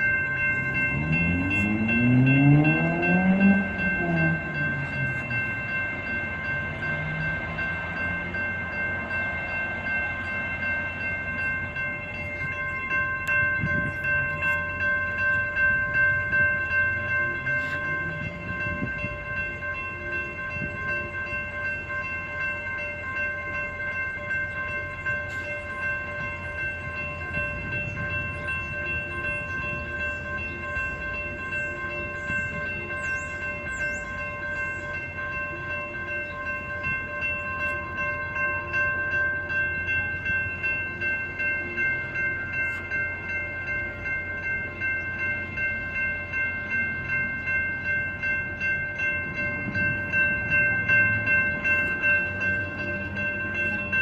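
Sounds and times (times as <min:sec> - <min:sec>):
crossing warning bell clanging: 0:00.0 - 0:54.0
freight train rumble: 0:00.0 - 0:54.0.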